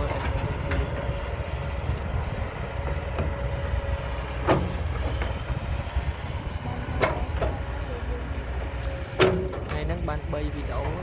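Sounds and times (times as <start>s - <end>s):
excavator diesel engine rumbling: 0.0s - 11.0s.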